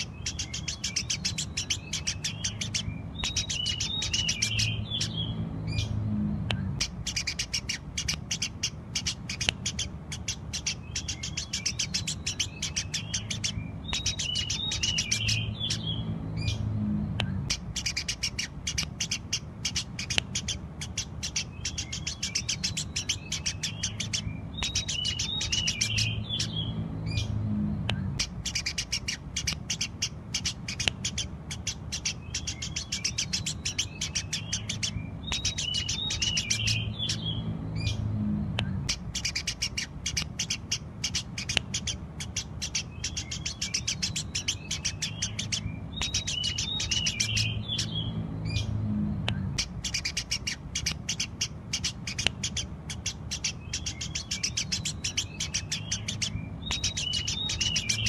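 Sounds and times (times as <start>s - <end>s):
sparrows chirping: 0.0s - 58.0s
steady low hum: 0.0s - 58.0s.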